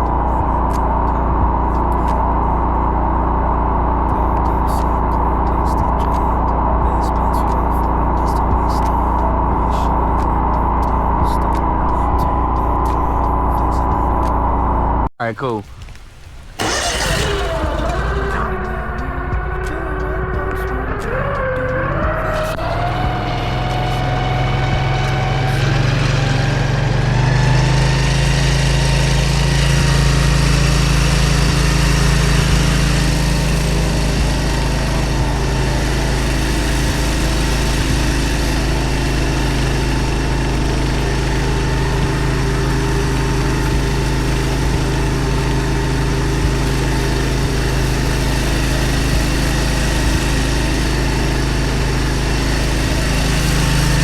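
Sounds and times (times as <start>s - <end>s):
gas engine running under load: 0.0s - 54.0s.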